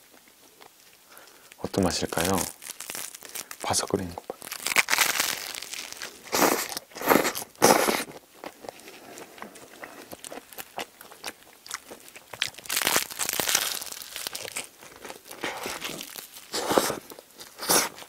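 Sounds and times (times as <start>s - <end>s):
chewing crusty bread: 0.0s - 18.0s.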